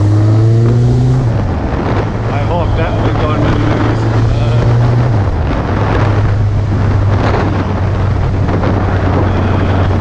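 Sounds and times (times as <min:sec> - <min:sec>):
motorcycle engine cruising: 0:00.0 - 0:10.0
wind noise on microphone: 0:00.0 - 0:10.0.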